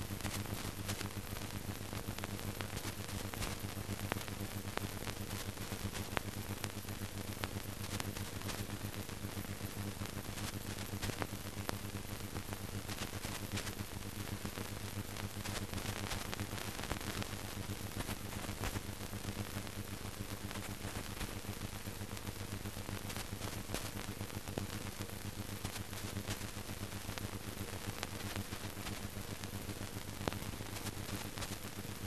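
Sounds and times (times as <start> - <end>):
film soundtrack hiss and crackles: 0.0 - 32.0.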